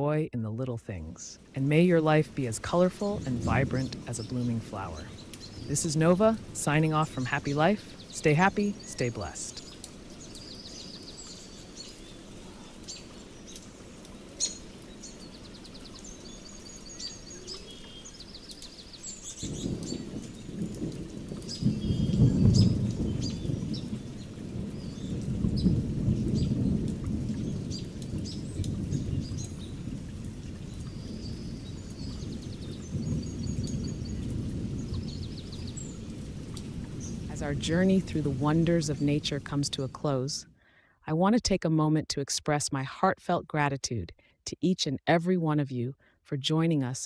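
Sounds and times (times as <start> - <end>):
birds chirping and trilling: 1.6 - 40.4.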